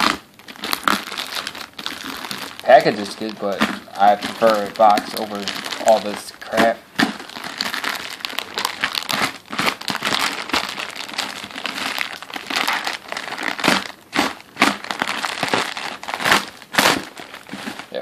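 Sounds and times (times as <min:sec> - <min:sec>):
packaging crinkling and crackling: 0:00.0 - 0:18.0.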